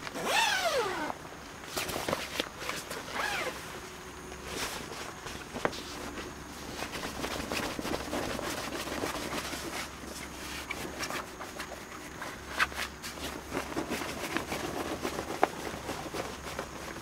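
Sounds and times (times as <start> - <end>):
fabric rustling and scraping: 0.0 - 17.0.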